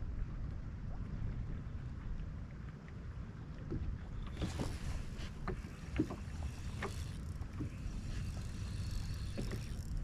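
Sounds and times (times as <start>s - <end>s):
low wind rumble: 0.0s - 10.0s
water lapping at hull: 0.0s - 10.0s.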